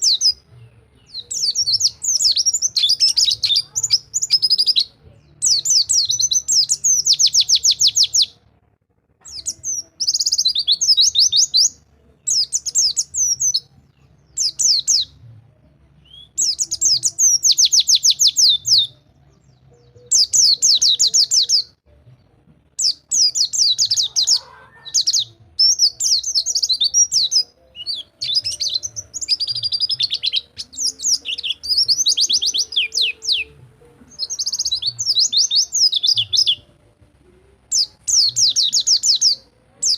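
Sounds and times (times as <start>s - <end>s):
bird singing fast trills: 0.0s - 8.4s, 9.3s - 13.7s, 14.3s - 15.2s, 16.0s - 21.8s, 22.8s - 36.7s, 37.7s - 39.9s.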